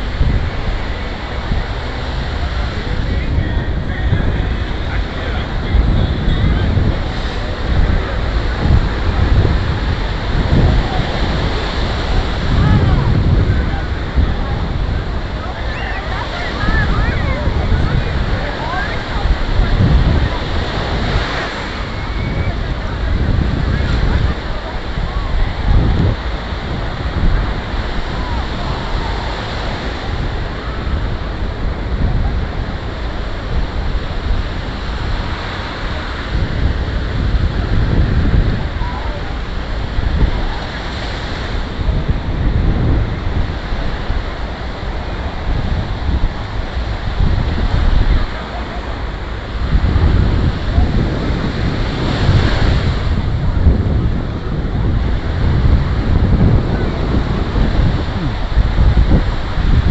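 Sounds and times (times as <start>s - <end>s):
ocean surf washing onto beach: 0.0s - 59.9s
wind rumbling on microphone: 0.0s - 59.9s.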